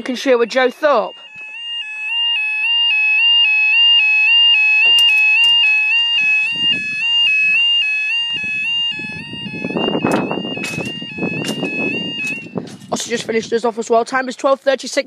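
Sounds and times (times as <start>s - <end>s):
level crossing alarm two-tone yodel: 0.0s - 13.5s.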